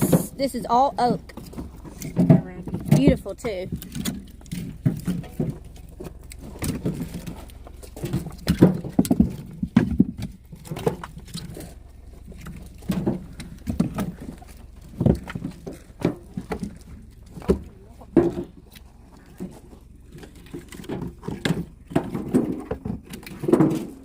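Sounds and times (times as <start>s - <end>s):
firewood clunking together: 0.0s - 24.0s.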